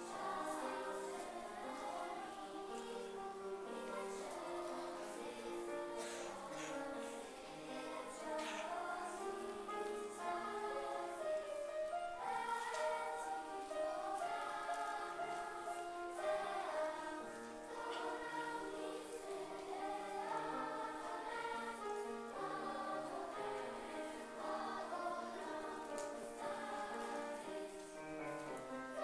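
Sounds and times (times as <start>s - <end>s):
children's choir singing: 0.0s - 29.0s.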